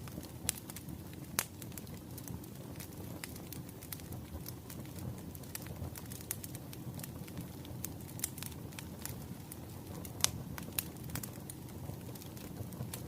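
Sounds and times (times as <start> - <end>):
bonfire crackling and popping: 0.0 - 13.0
low rumble of burning: 0.0 - 13.0.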